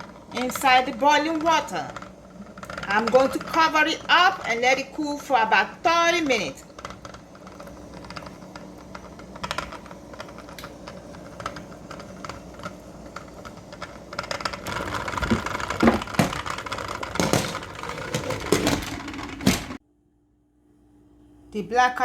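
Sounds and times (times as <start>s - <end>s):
cans knocking in boiling pot: 0.0s - 19.8s
pot lid rattling: 0.0s - 19.8s.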